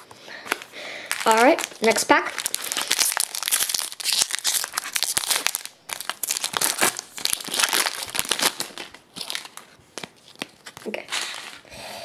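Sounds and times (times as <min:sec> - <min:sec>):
foil wrapper crinkling: 0:00.0 - 0:11.7.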